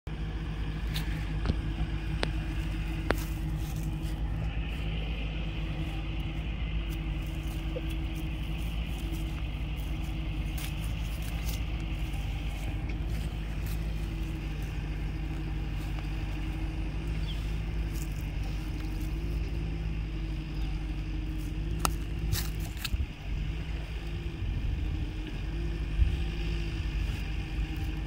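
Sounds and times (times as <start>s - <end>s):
engine idling: 0.1s - 28.0s.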